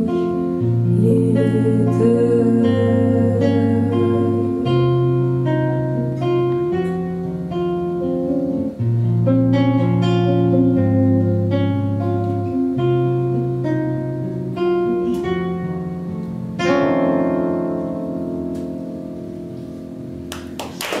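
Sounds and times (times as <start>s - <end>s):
acoustic guitar fingerpicking: 0.0s - 20.6s
guitar chord ringing: 0.0s - 20.6s.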